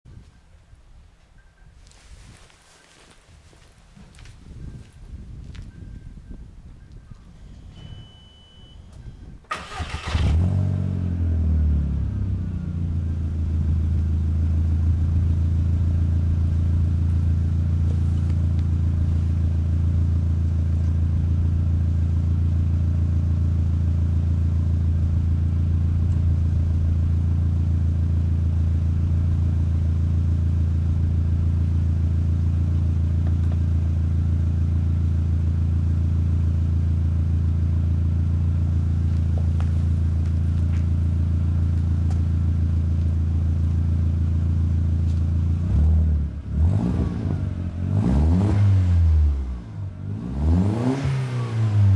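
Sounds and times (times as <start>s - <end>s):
car engine starting and idling: 6.9s - 51.9s.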